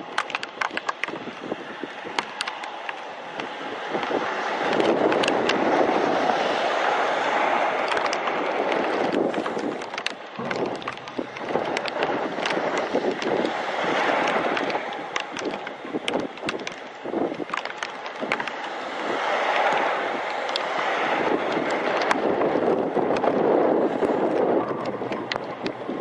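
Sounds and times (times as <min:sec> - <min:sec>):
rain clicking on microphone: 0:00.0 - 0:26.0
wind buffeting microphone: 0:00.0 - 0:26.0.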